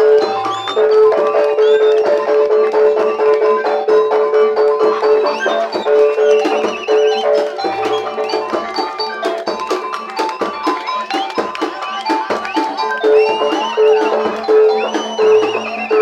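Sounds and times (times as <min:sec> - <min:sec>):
wavering high melody: 0:00.0 - 0:16.0
quick drum strokes: 0:03.0 - 0:16.0.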